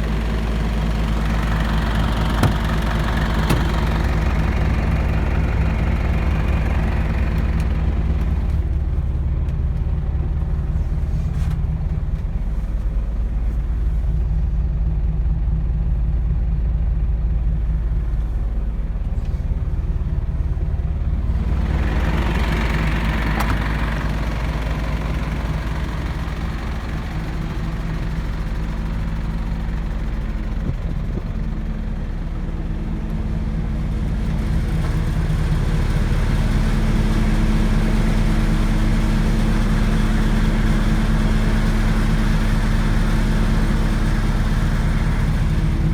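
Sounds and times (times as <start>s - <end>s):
truck diesel engine idling: 0.0s - 45.9s.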